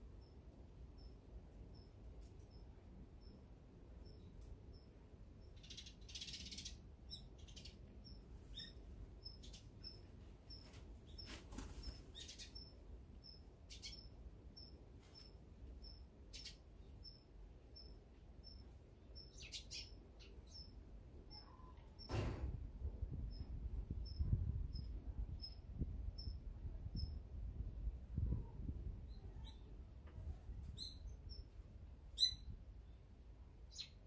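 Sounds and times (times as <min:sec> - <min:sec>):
small birds chirping: 0:00.1 - 0:22.1, 0:23.2 - 0:27.2, 0:28.4 - 0:34.0.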